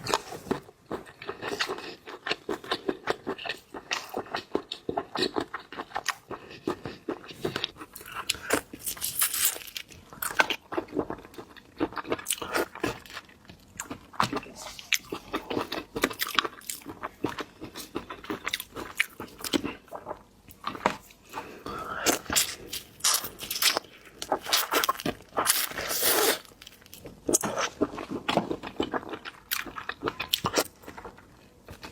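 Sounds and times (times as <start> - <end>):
crunching and chewing shellfish: 0.0 - 31.9.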